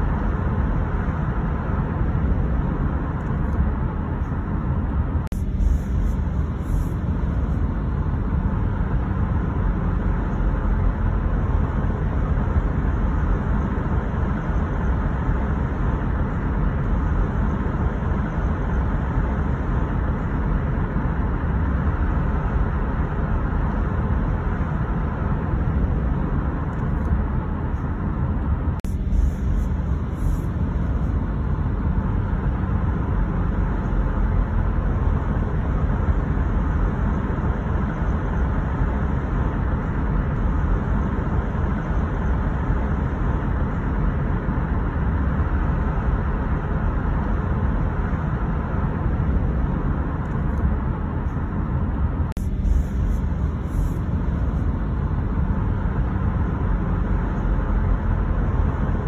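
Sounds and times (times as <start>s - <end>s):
car road noise: 0.0s - 59.0s.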